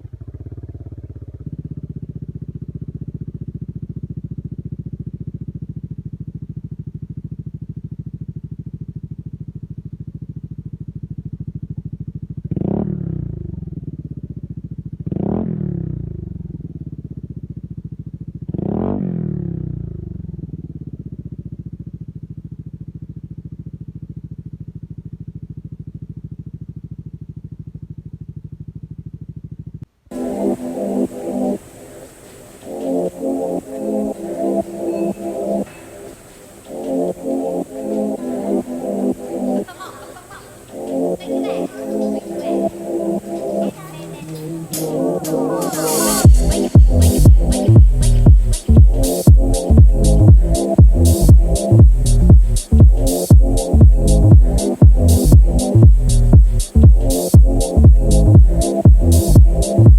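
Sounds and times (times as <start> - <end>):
scooter engine idling: 0.0 - 59.9.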